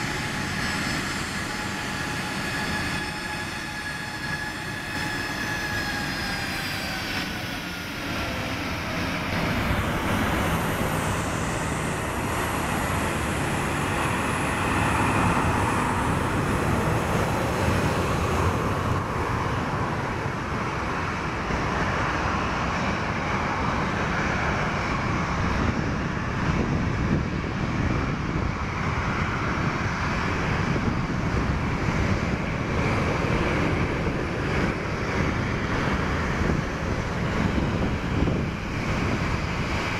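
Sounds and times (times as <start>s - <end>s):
jet engine whine and roar: 0.0s - 39.9s.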